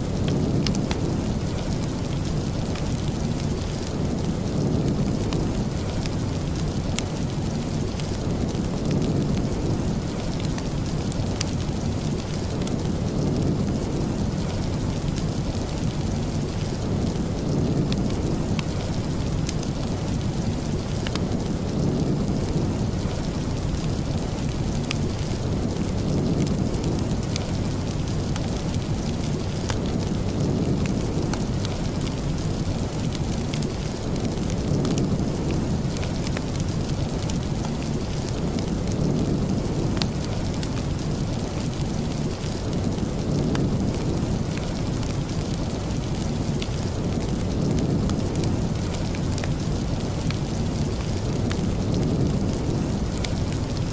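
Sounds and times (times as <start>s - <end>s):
deep continuous rumble: 0.0s - 53.9s
steady rain: 0.0s - 53.9s
small sharp crackles: 0.1s - 53.9s.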